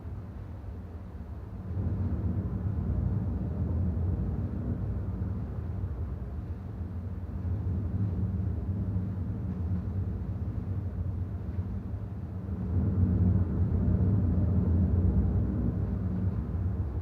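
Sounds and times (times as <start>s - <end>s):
low rumble: 1.6s - 17.0s.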